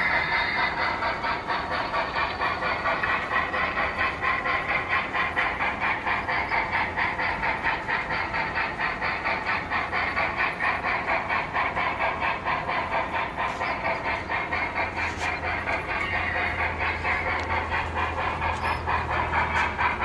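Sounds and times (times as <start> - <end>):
model train clattering: 0.0 - 20.0.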